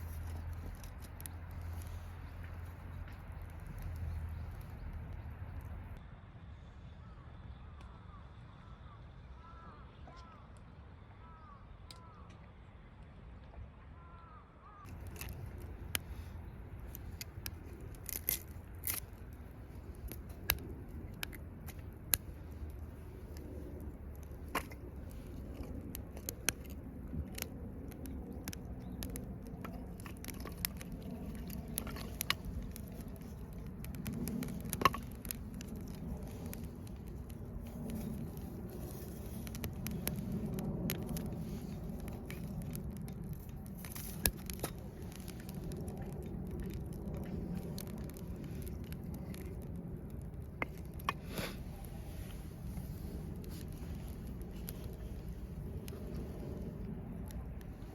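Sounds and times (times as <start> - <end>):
campfire crackling: 0.0 - 6.0, 14.9 - 57.9
low steady rumble: 0.0 - 57.9.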